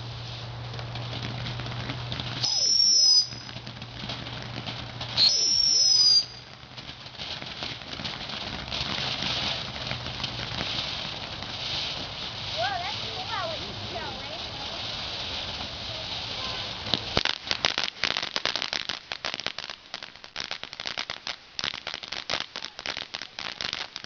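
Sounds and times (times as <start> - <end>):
whistling fireworks: 0.0 - 24.0.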